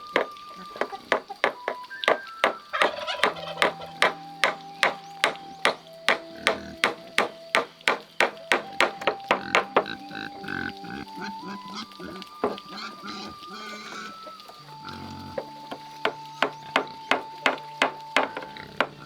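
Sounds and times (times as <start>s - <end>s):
background music with held notes: 0.0s - 19.0s.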